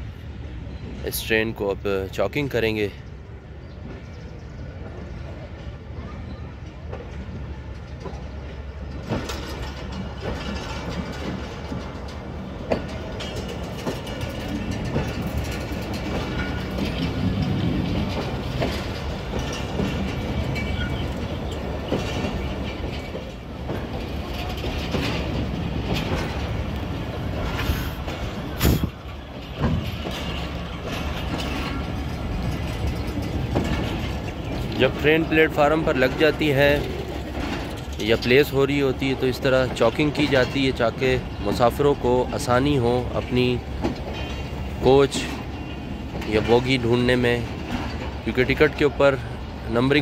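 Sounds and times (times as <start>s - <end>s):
train coaches rumbling: 0.0s - 50.0s
wheels clanking over rail joints: 0.8s - 50.0s.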